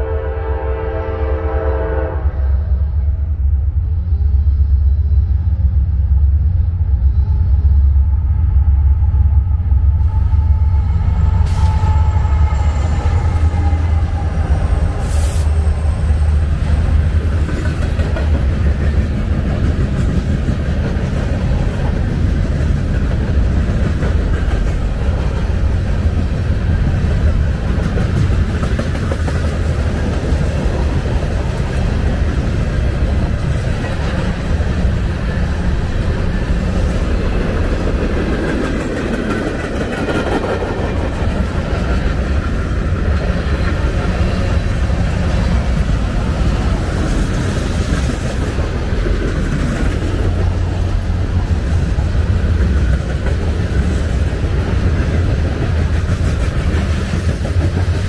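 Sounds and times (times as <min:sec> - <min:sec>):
freight train rolling past: 0:00.0 - 0:58.0
steel wheels rumbling on rails: 0:00.0 - 0:58.0.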